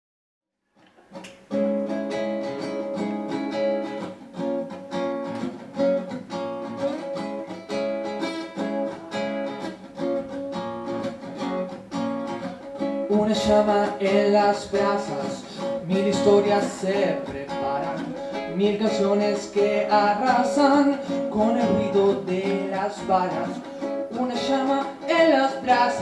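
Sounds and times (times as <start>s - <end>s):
acoustic guitar strumming: 0.9s - 26.0s.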